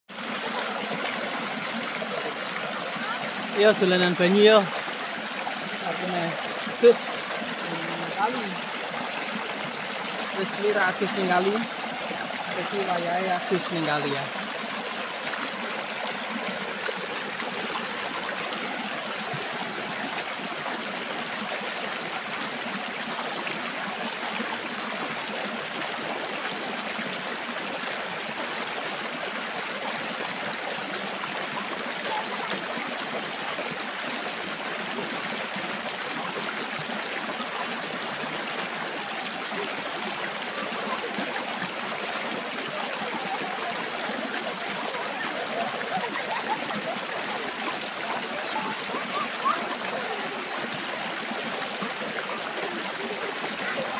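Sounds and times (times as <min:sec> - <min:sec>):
river running over rocks: 0:00.1 - 0:53.9.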